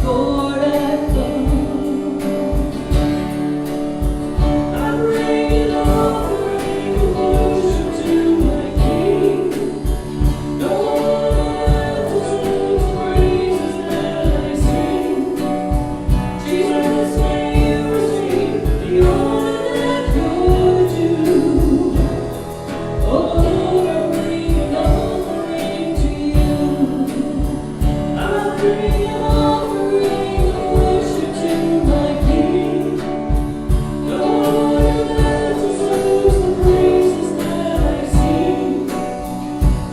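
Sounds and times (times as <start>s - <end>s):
instrumental accompaniment with beat: 0.0s - 39.9s
voices singing worship song: 0.0s - 39.9s.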